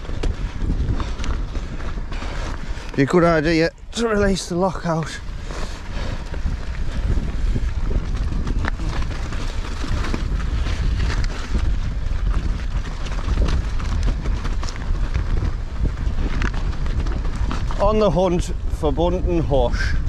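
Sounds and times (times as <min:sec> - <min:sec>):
bike rattling over stony track: 0:00.0 - 0:20.0
wind buffeting microphone: 0:00.0 - 0:20.0.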